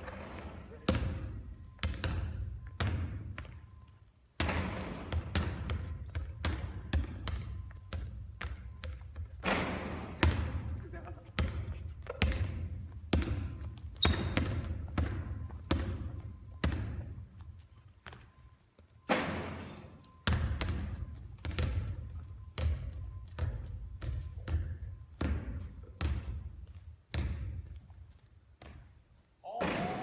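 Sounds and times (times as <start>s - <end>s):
basketballs bouncing on court floor: 0.0s - 18.3s, 20.2s - 30.0s.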